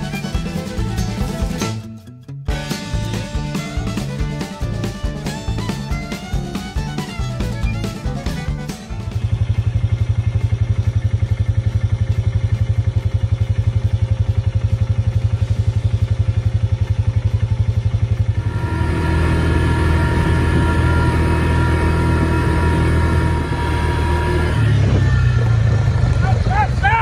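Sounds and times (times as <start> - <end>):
atv engine running: 0.0 - 1.9, 2.5 - 27.0.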